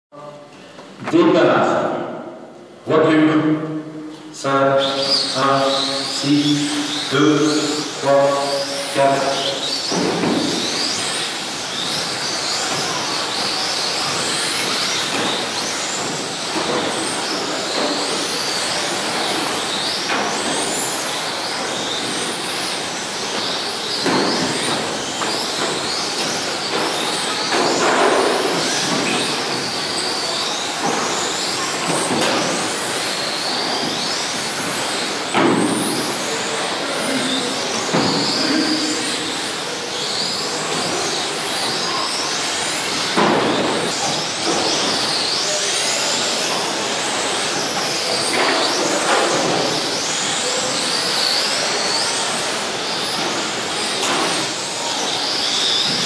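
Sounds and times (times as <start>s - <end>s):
rc car motors whining: 4.8s - 56.0s.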